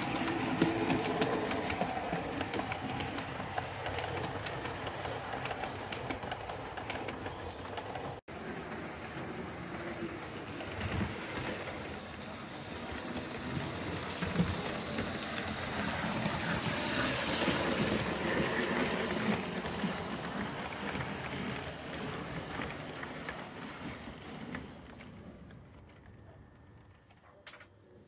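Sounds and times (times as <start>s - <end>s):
model steam locomotive running: 0.0s - 27.2s.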